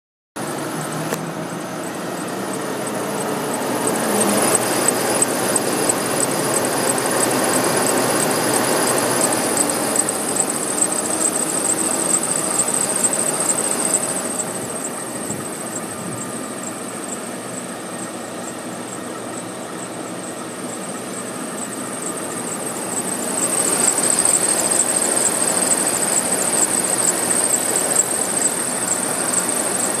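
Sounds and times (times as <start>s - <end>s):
engine running: 0.4s - 30.0s
high-pitched squeal: 0.4s - 30.0s.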